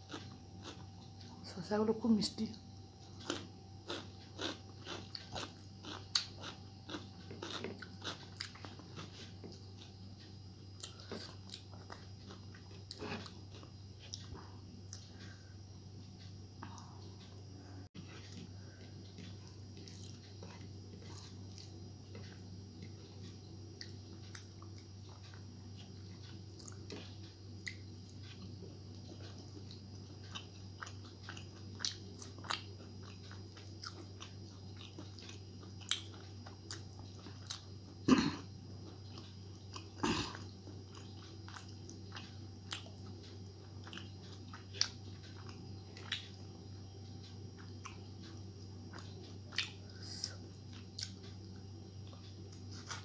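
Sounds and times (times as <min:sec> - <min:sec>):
soft wet chewing: 0:00.0 - 0:01.5, 0:02.6 - 0:53.0
steady low hum: 0:00.0 - 0:53.0.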